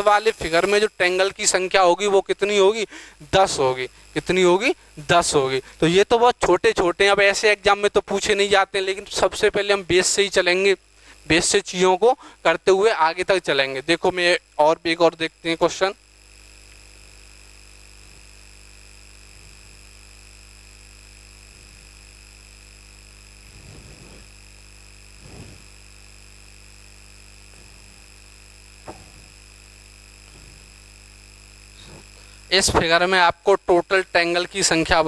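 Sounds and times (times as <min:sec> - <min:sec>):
electrical hum with whine: 0:00.0 - 0:35.0.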